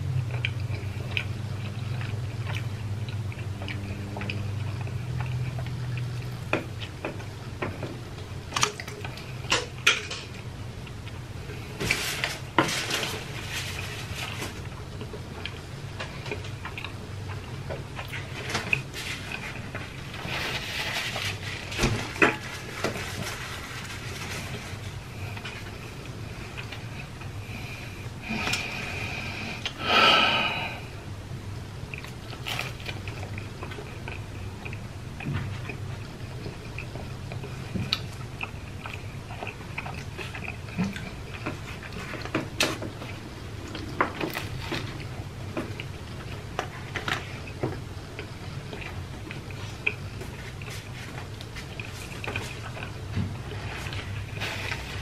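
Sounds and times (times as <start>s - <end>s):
person eating: 0.0s - 7.4s, 8.5s - 31.1s, 31.9s - 55.0s.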